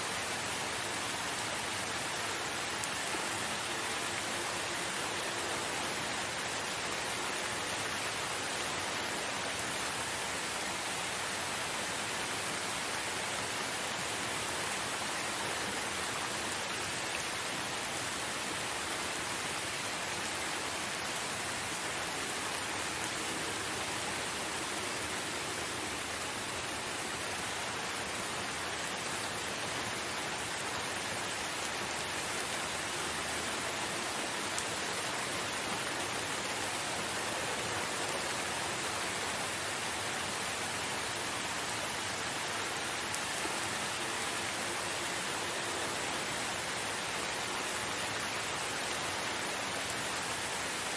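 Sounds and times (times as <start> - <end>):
rain falling in forest: 0.0 - 50.9.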